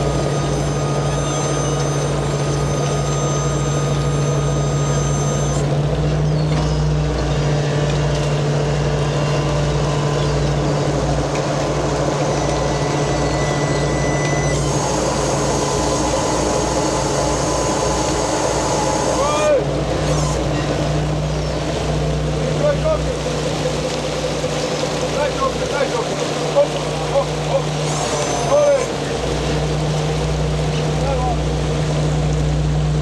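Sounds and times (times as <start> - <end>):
diesel engines droning: 0.0 - 33.0.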